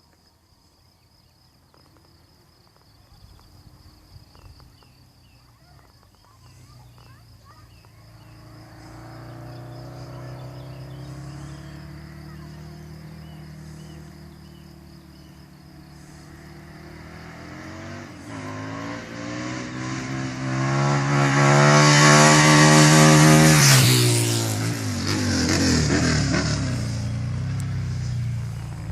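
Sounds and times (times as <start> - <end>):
motorcycle engine passing by: 4.3 - 28.9.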